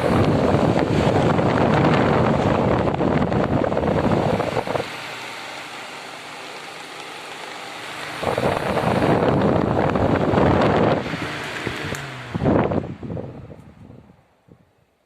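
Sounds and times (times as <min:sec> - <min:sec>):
fan airflow rushing: 0:00.0 - 0:15.0.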